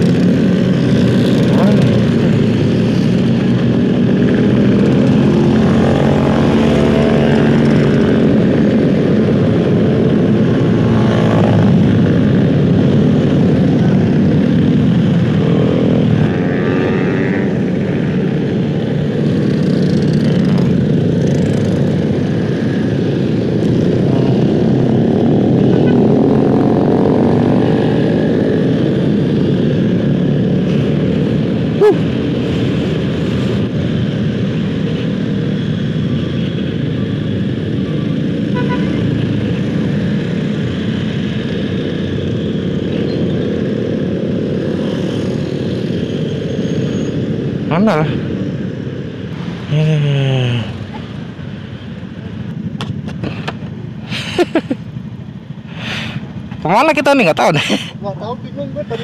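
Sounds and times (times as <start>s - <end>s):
motor scooter engines revving: 0.0s - 59.0s
rushing wind noise: 0.0s - 59.0s.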